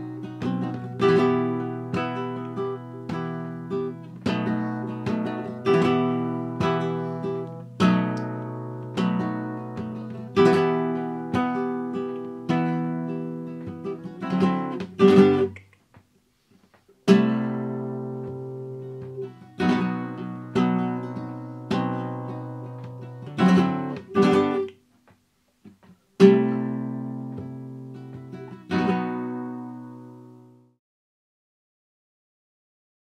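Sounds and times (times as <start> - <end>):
flamenco guitar strumming chords: 0.0 - 16.1, 17.0 - 30.8.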